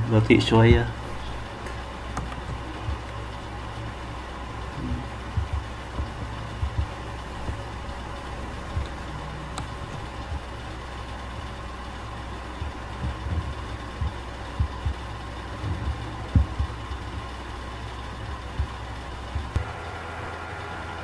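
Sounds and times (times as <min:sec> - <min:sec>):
low background hum: 0:00.0 - 0:21.0
soft low thumps: 0:00.7 - 0:19.9.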